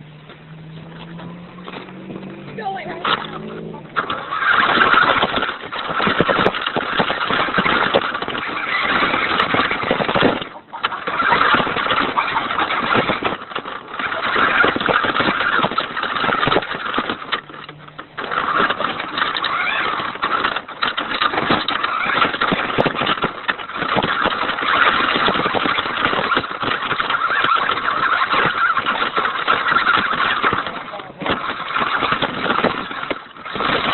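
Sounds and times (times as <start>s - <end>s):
toy truck motor revving: 0.0s - 33.9s.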